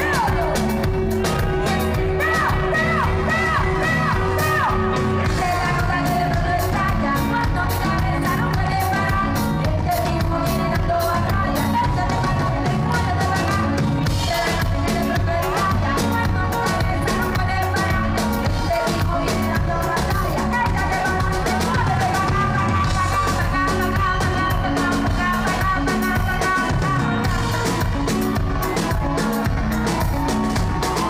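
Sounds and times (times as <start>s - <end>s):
drum kit beat: 0.0s - 31.0s
live band playing: 0.0s - 31.0s
woman singing into a microphone: 0.0s - 31.0s.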